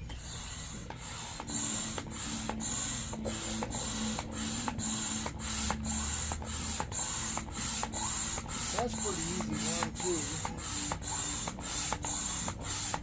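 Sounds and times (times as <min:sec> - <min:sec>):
hand air pump strokes: 0:00.0 - 0:13.0.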